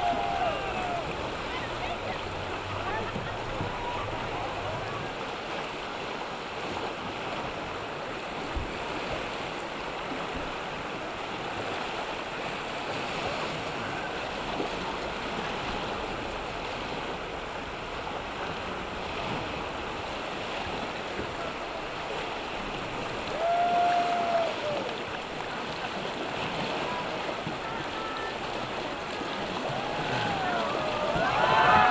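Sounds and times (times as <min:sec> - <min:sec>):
river rapids rushing: 0:00.0 - 0:31.9.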